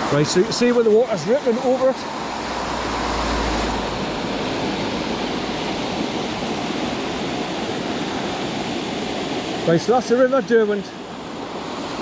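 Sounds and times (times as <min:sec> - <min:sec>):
river water rippling over rocks: 0:00.0 - 0:12.0.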